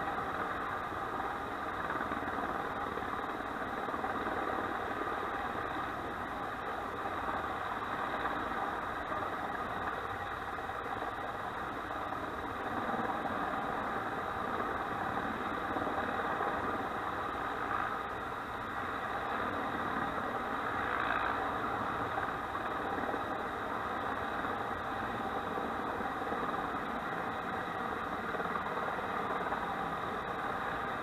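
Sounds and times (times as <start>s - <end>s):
helicopter hovering: 0.0s - 31.0s.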